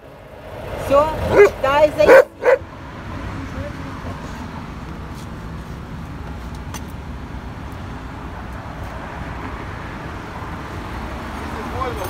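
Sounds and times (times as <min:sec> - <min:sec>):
low rumble of motor vehicles: 0:00.0 - 0:12.0.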